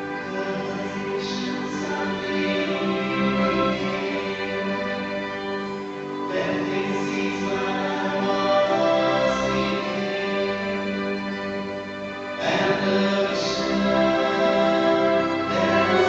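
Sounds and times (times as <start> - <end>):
band and orchestra playing a ballad: 0.0 - 16.0
held string chords: 0.0 - 16.0.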